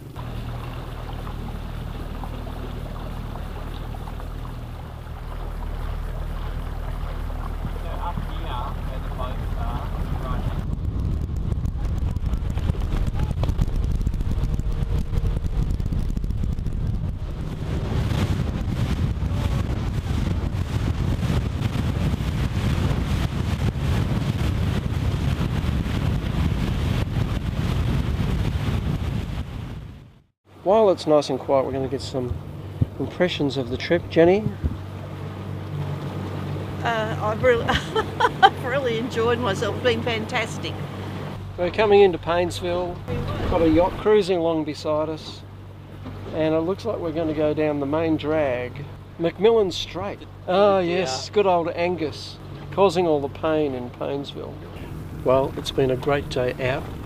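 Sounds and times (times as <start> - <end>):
wind buffeting microphone: 0.0 - 30.3, 31.4 - 50.4, 51.0 - 57.0
motorboat engine humming: 0.0 - 57.0
rush of boat wake: 0.0 - 57.0
water splashing along hull: 0.0 - 57.0.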